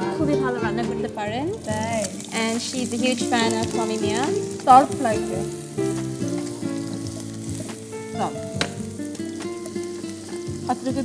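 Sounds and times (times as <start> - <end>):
onions sizzling in oil: 0.0 - 11.0
wooden spatula stirring: 1.5 - 11.0.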